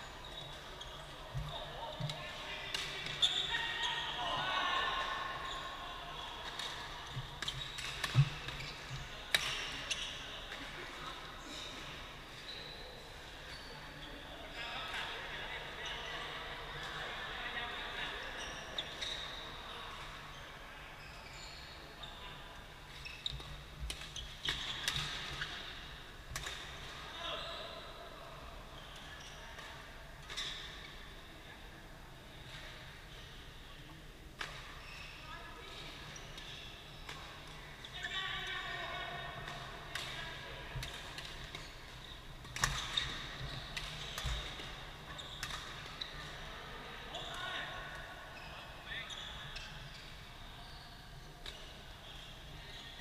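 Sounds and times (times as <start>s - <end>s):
shoes squeaking on court floor: 0.0s - 14.6s, 18.1s - 28.1s, 28.7s - 31.3s, 32.3s - 38.7s, 39.4s - 53.0s.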